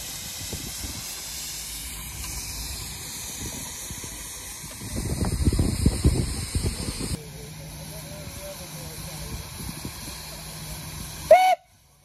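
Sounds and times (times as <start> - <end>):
steam engine hissing: 0.0 - 12.0.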